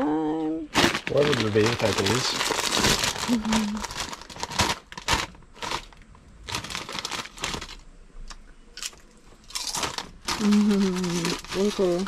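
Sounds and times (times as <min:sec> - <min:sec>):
chip packet crinkling: 0:00.7 - 0:07.9, 0:08.8 - 0:12.0.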